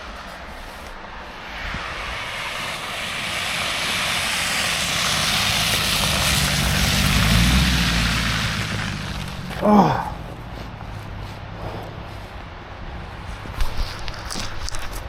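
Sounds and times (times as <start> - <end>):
low drone: 0.0 - 12.3
wind and road noise: 0.0 - 15.0.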